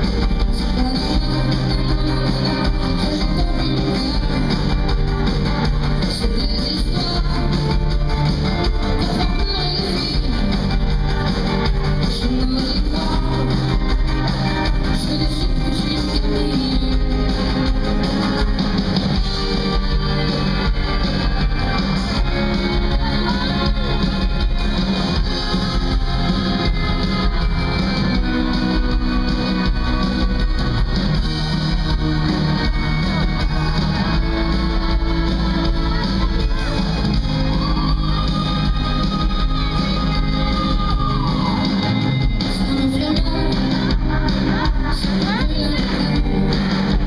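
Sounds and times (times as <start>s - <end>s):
live band with guitar and keyboards: 0.0s - 47.0s
woman singing: 0.0s - 47.0s.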